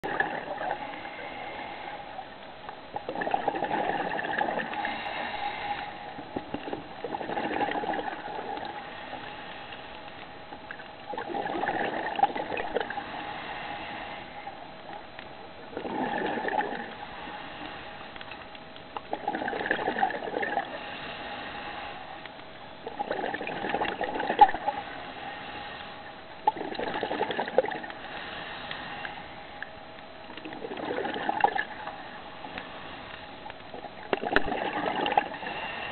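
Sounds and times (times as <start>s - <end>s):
faint steady hum: 0.0s - 35.9s
underwater exhaust bubbles gurgling: 0.0s - 35.9s.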